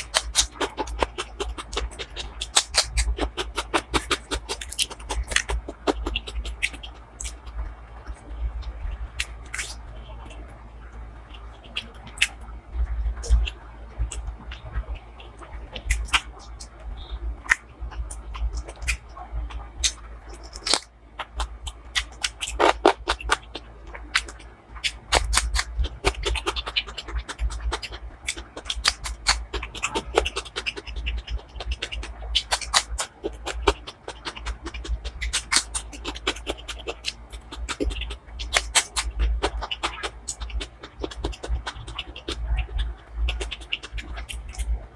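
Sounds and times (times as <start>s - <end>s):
chewing with mouth smacks: 0.0s - 44.9s.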